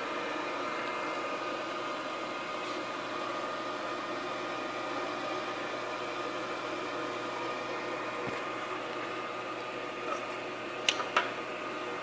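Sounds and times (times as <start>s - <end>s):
electrical machine hum: 0.0s - 12.0s.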